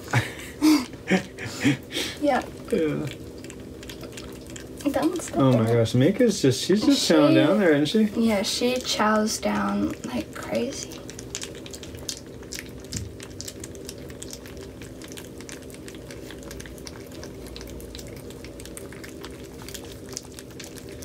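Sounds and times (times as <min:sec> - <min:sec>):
puppies lapping and smacking: 0:00.0 - 0:21.0
steady low hum: 0:00.0 - 0:21.0.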